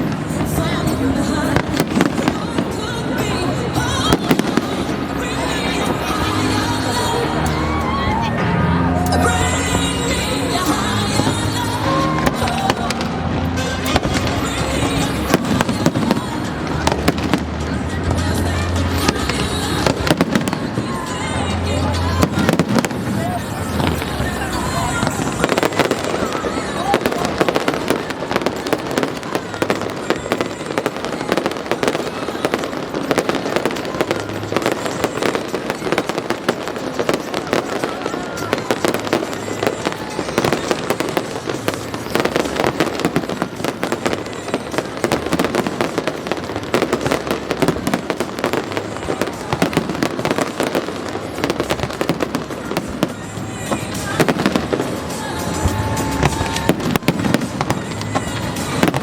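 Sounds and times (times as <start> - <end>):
fireworks crackling and banging: 0.0 - 59.0
music playing: 0.0 - 59.0.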